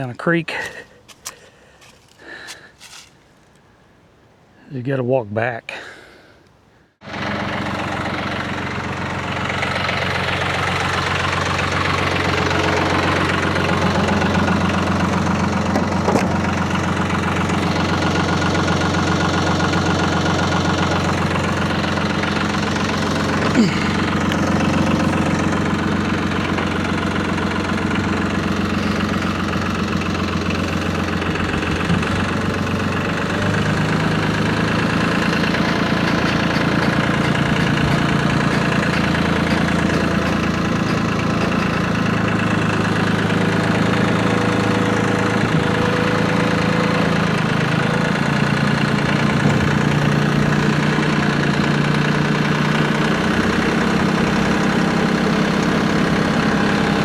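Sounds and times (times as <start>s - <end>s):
tractor engine running: 7.0s - 57.0s.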